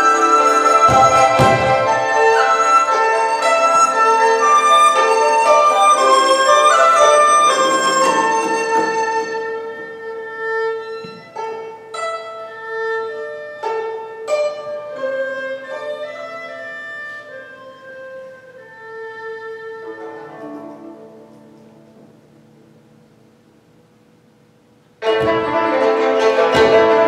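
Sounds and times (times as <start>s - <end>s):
plucked and struck zither notes: 0.0s - 22.6s, 25.0s - 27.0s
bowed string melody: 0.0s - 23.7s, 24.9s - 27.0s.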